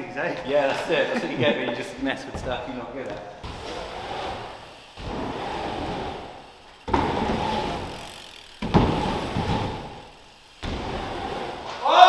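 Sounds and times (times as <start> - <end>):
bike tyres rolling on ramps: 0.0 - 12.0.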